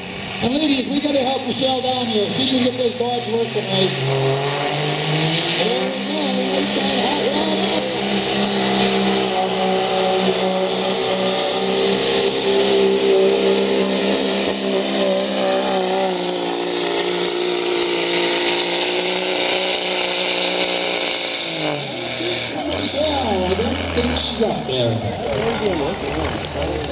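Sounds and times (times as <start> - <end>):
diesel truck engine at full throttle: 0.0 - 26.9.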